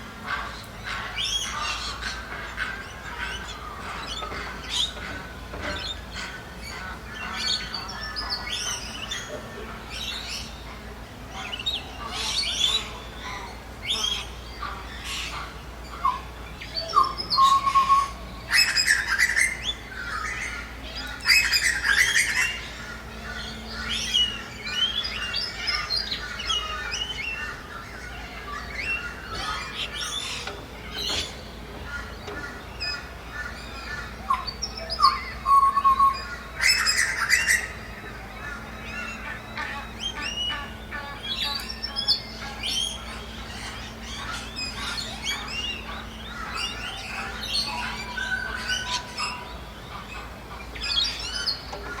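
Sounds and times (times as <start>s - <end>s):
birds squawking: 0.0s - 52.0s
steady low hum: 0.0s - 52.0s
birds chirping and whistling: 0.2s - 52.0s.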